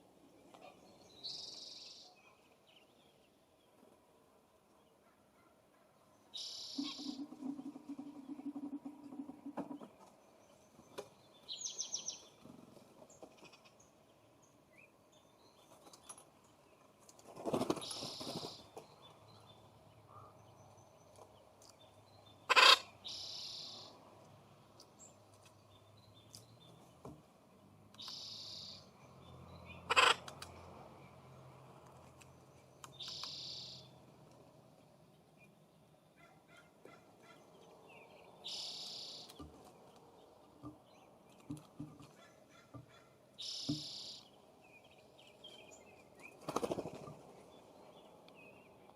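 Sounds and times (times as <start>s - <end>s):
songbirds harsh calls: 4.8s - 24.2s, 24.8s - 48.9s.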